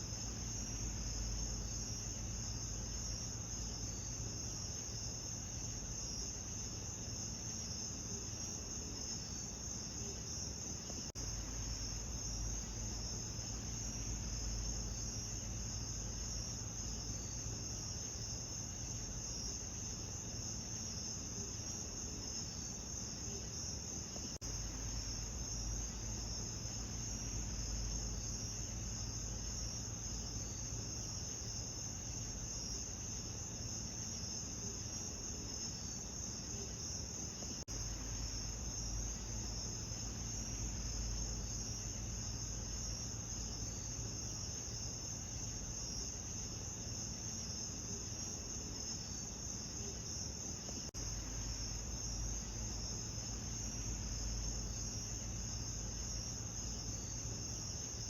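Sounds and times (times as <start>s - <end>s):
crickets trilling: 0.0s - 58.0s
faint low hum: 0.0s - 58.0s.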